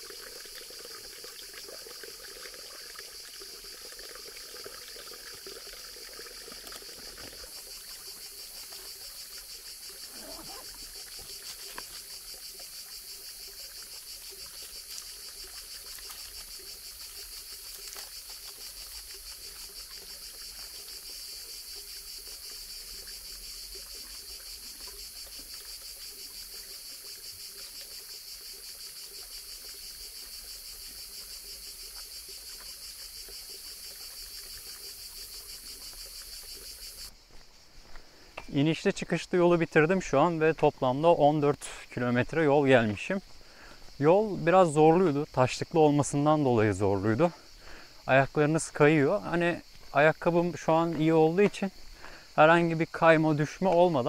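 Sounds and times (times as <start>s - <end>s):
insects chorus droning: 0.0s - 54.0s.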